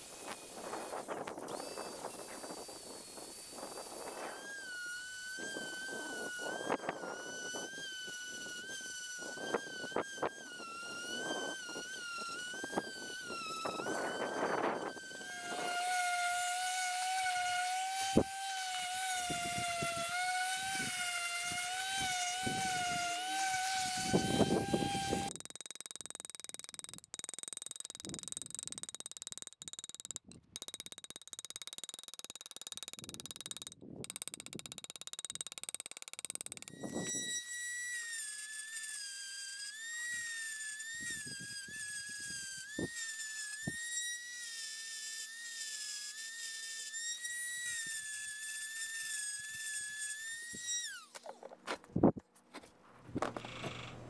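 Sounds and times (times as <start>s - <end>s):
rotary tool grinding metal: 0.0s - 51.9s, 53.1s - 54.0s.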